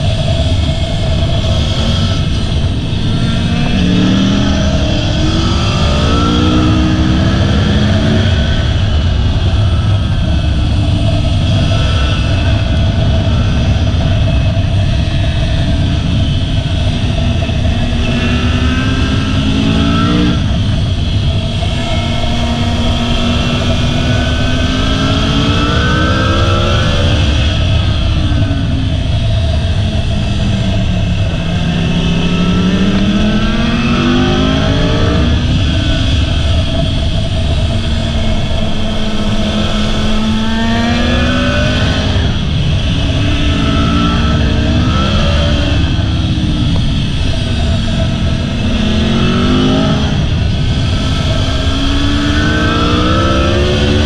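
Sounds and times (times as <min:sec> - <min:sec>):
motorcycle engine accelerating: 0:00.0 - 0:54.0
wind rumble on microphone: 0:00.0 - 0:54.0.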